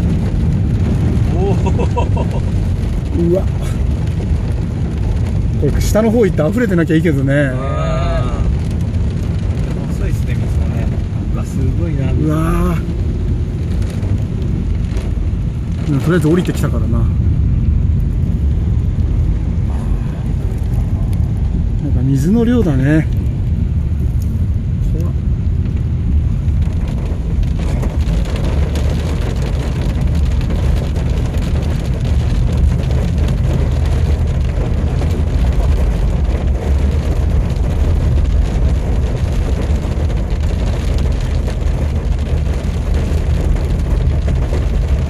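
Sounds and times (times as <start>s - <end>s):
car driving on wet road: 0.0s - 45.0s
heavy rain and spray: 0.0s - 45.0s.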